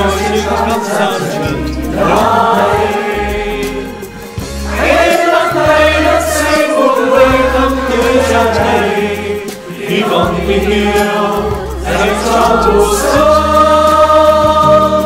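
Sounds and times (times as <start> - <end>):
instrumental backing: 0.0 - 15.0
men's choir singing: 0.0 - 15.0.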